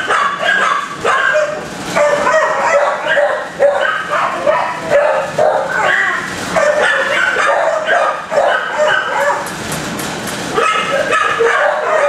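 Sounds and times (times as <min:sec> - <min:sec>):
many dogs barking: 0:00.0 - 0:09.5, 0:10.5 - 0:12.0.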